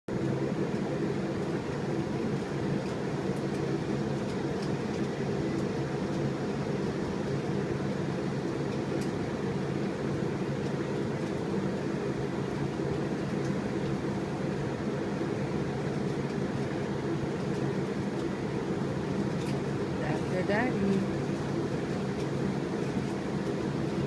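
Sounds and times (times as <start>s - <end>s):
low mechanical hum: 0.1s - 24.0s.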